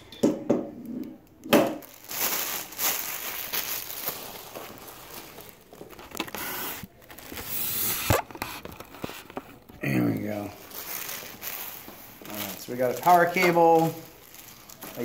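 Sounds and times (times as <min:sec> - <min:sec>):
plastic packaging crinkling: 0:01.8 - 0:15.0.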